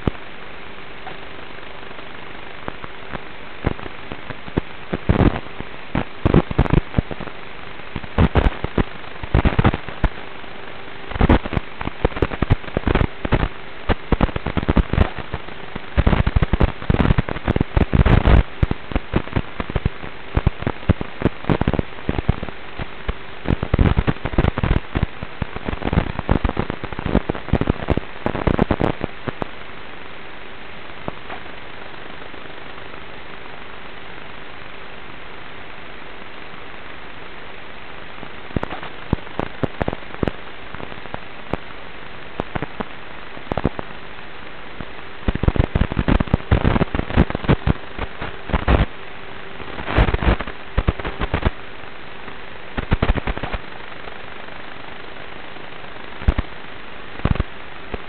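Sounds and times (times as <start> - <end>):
distorted crackling of rc truck: 0.0 - 10.3, 11.0 - 29.6, 38.2 - 44.2, 44.8 - 56.6
steady hiss and faint hum: 0.0 - 58.0.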